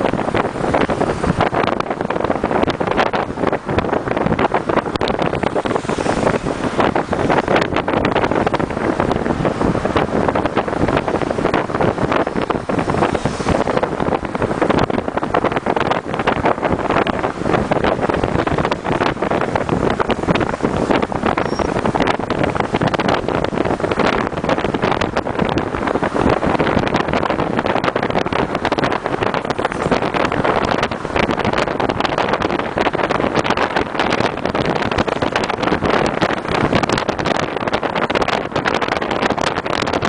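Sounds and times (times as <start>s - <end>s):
car road and engine noise: 0.0s - 40.0s
wind buffeting microphone: 0.0s - 40.0s.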